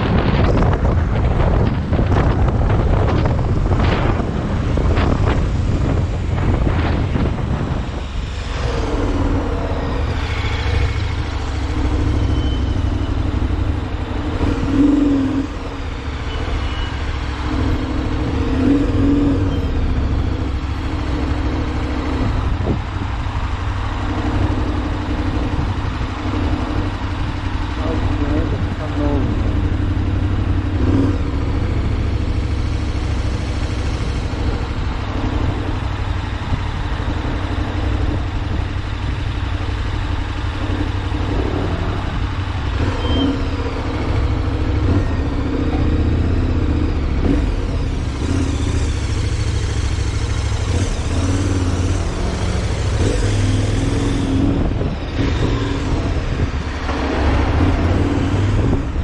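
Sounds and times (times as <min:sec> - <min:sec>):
wind noise on microphone: 0:00.0 - 0:11.7, 0:12.4 - 0:45.2, 0:45.8 - 0:59.0
vehicle engine and road rumble: 0:00.0 - 0:59.0.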